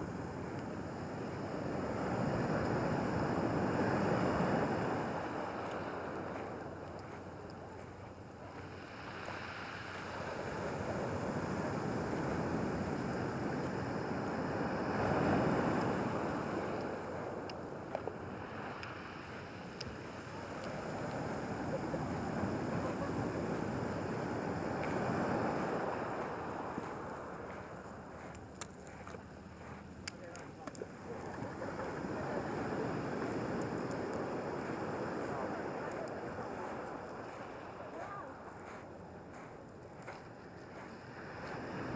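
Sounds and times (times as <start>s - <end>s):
waves breaking on pebble beach: 0.0s - 41.9s.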